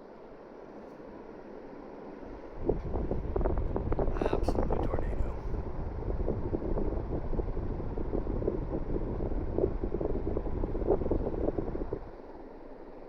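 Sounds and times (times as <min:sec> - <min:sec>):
ceiling fan wind rush: 0:00.0 - 0:13.0.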